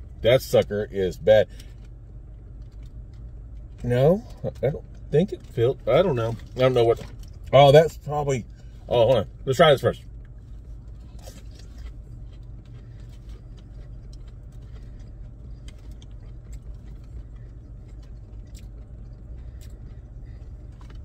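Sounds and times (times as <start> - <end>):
car cabin hum: 0.0 - 21.0
man chewing crunchy food: 1.4 - 9.4, 10.0 - 21.0.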